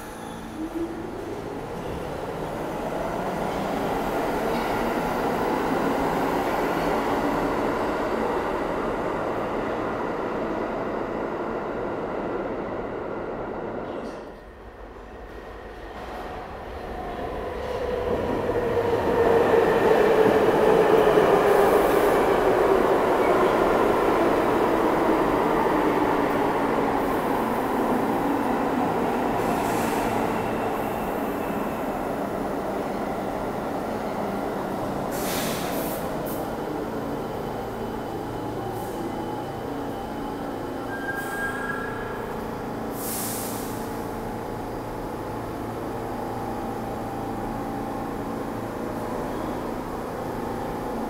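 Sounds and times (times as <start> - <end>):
subway train wheel rumble: 0.0 - 51.0.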